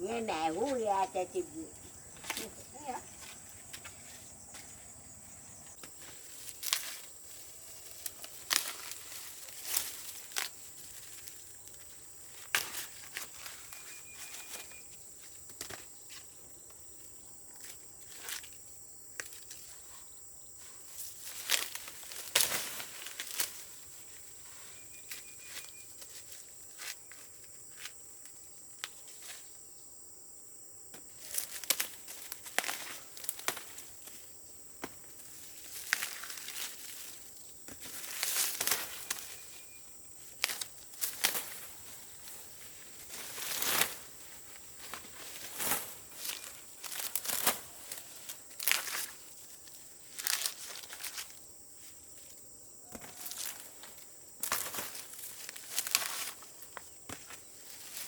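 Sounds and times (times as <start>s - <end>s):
dry plant material crackling: 0.0s - 16.2s, 20.6s - 27.8s, 31.2s - 52.3s, 52.9s - 58.0s
high insect drone: 0.0s - 58.0s.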